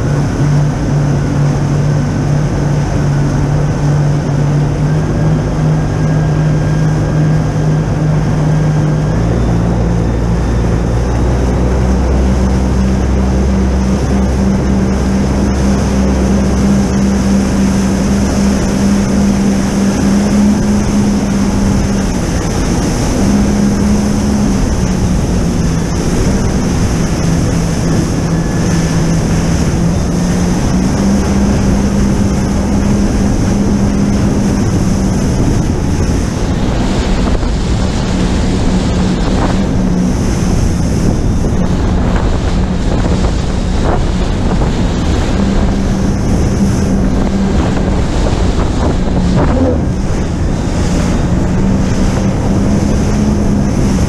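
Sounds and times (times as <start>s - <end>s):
jet ski engine running: 0.0s - 54.0s
water rushing: 0.0s - 54.0s
wind buffeting microphone: 0.0s - 54.0s.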